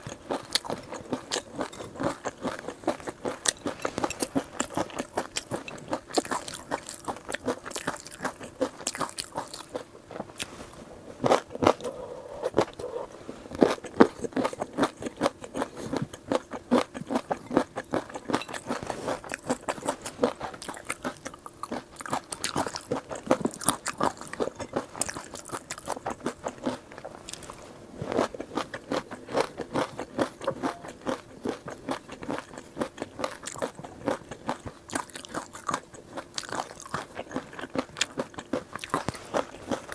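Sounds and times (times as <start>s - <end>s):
crunchy food chewing: 0.0s - 10.6s, 11.2s - 39.9s.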